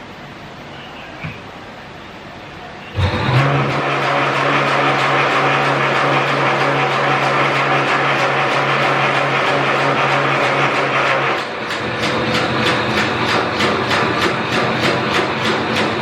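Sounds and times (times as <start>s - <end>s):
fast mechanical clatter: 3.0s - 16.0s.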